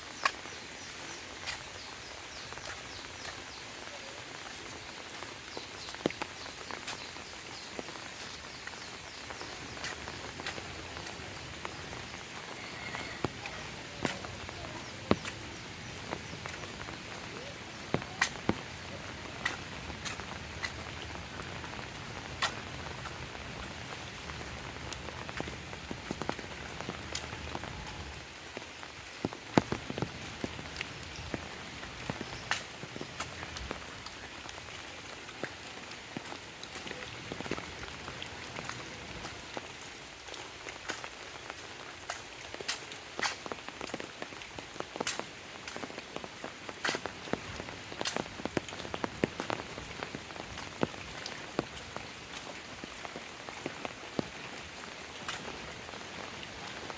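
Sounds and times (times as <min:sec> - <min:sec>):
steady rain: 0:00.0 - 0:56.9
heavy raindrops ticking: 0:00.2 - 0:40.7, 0:42.5 - 0:56.9.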